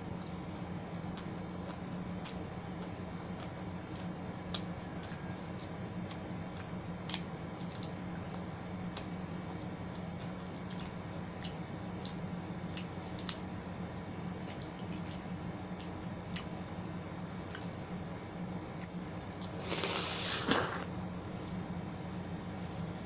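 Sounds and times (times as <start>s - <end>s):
steady low hum: 0.0s - 23.0s
chewing clicks and smacks: 0.1s - 19.8s.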